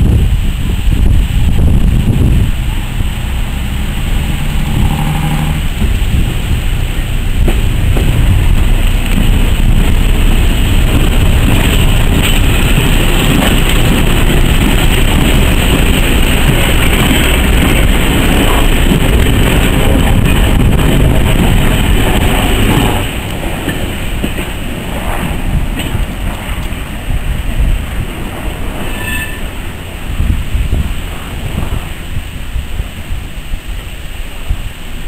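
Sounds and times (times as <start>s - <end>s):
diesel train engines rumbling: 0.0s - 35.0s
train wheels on rails: 0.0s - 35.0s.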